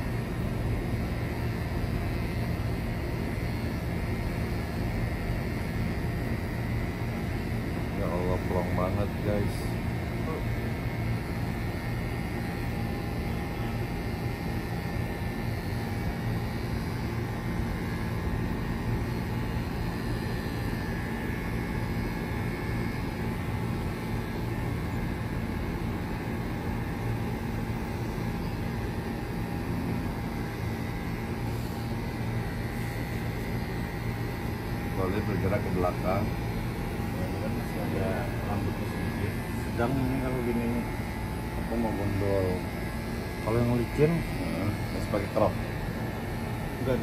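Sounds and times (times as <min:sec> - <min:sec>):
electric hair clippers buzzing: 0:00.0 - 0:47.0.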